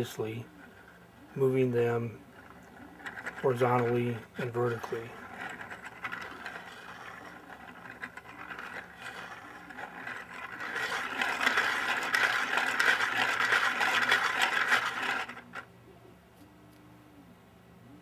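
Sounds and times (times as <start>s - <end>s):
plastic parts scraping and rattling: 0.0s - 15.7s.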